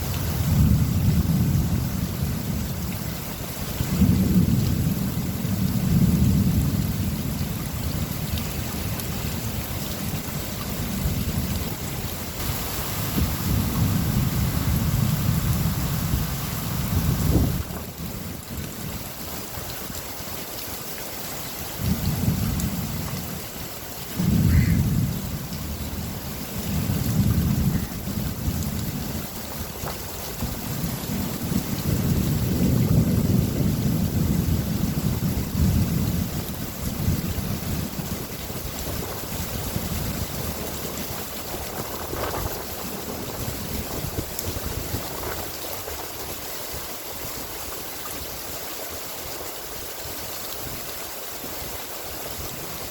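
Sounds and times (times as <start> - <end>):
low thunder rumbling: 0.0 - 19.0, 21.8 - 23.5, 24.1 - 46.0
steady rain: 0.0 - 52.9.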